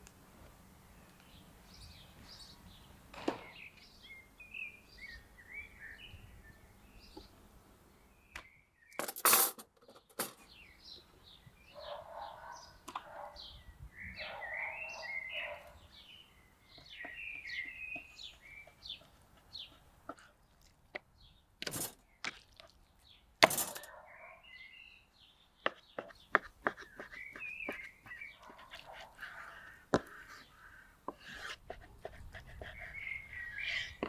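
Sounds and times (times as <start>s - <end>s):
small songbirds chirping: 0.7s - 9.0s, 9.7s - 34.0s.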